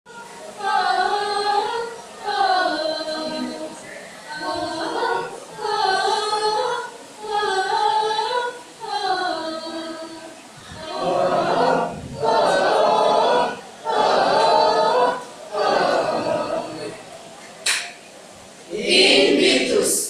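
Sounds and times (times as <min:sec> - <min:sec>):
mixed choir singing unaccompanied: 0:00.1 - 0:17.4, 0:18.0 - 0:20.0.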